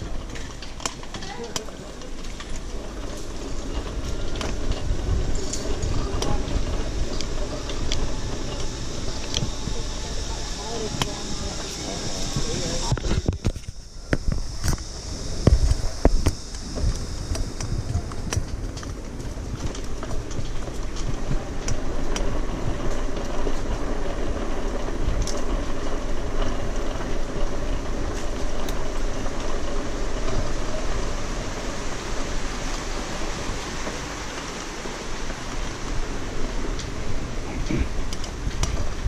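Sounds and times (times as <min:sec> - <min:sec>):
bicycle tyres rumbling: 0:00.0 - 0:39.0
bike rattling and clicking: 0:00.0 - 0:39.0.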